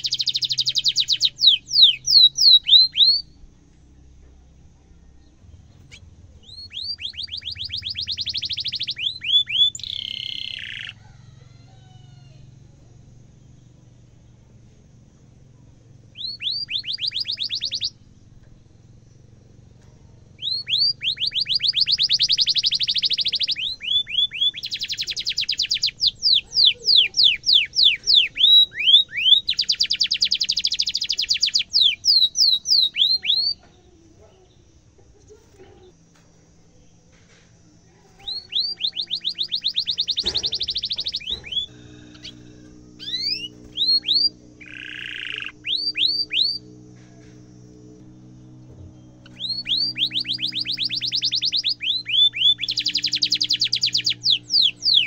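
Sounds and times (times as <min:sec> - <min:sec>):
canary trilling: 0:00.0 - 0:03.4, 0:05.7 - 0:12.5, 0:16.0 - 0:18.1, 0:20.2 - 0:36.0, 0:38.0 - 0:55.0
canary chirps: 0:00.0 - 0:13.8, 0:14.5 - 0:55.0.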